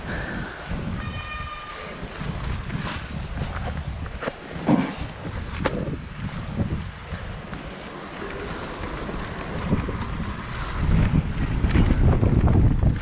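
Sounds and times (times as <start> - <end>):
bike tyres rumbling on grass: 0.0 - 13.0
wind buffeting microphone: 0.0 - 13.0.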